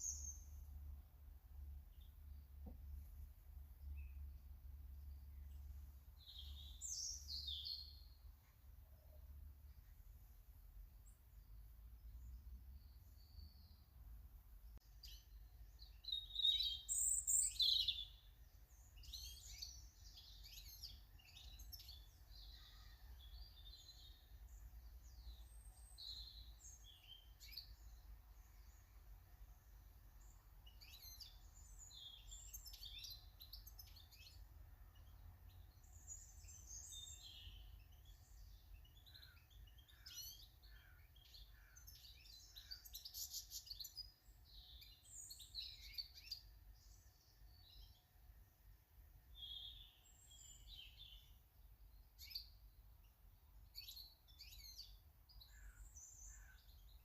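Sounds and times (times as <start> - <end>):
small birds chirping and singing: 0.0 - 57.0.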